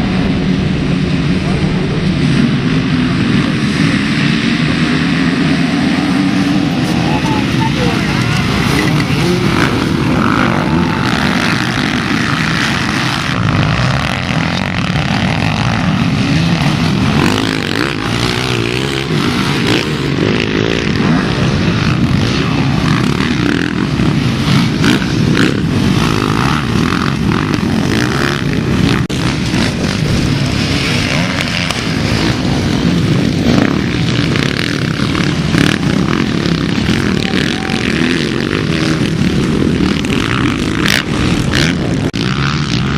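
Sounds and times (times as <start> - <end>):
motocross bike engines revving: 0.0 - 42.9.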